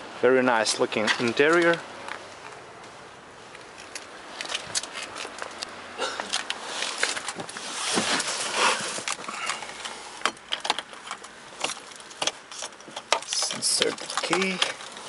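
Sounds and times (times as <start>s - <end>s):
rustling: 1.0s - 15.0s.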